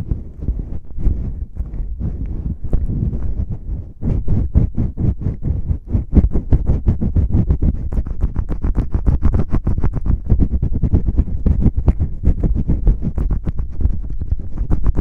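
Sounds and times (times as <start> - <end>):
fingers rubbing and tapping microphone: 0.0 - 15.0.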